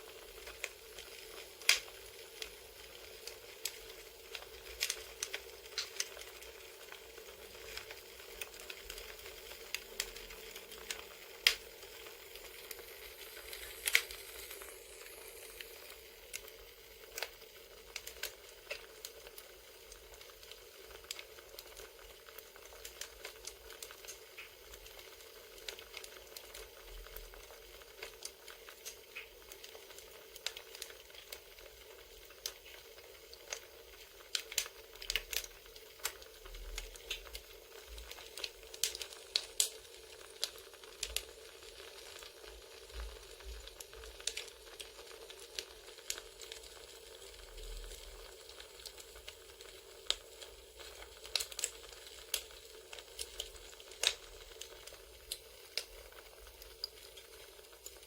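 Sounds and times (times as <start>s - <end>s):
campfire crackling and popping: 0.0s - 58.0s
low hiss: 0.0s - 58.0s.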